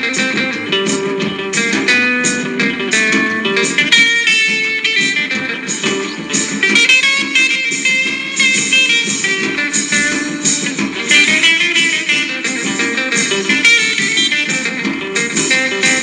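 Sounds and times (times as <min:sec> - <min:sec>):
rock and roll electric guitar: 0:00.0 - 0:16.0
steady drum beat: 0:00.0 - 0:16.0.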